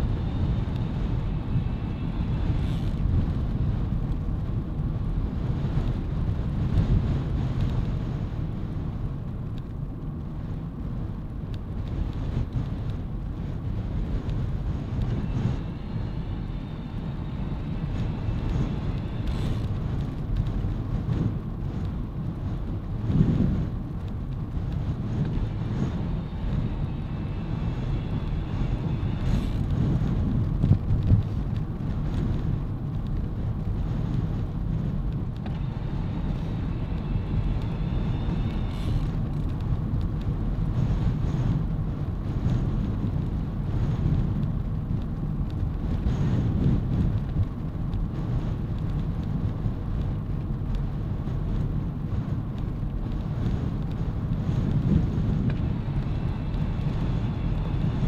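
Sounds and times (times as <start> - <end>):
bicycle tyre noise on tarmac: 0.0 - 58.0
wind buffeting microphone: 0.0 - 58.0.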